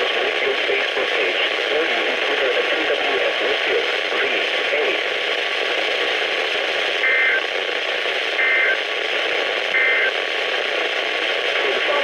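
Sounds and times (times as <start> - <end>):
radio hiss and static: 0.0 - 12.0.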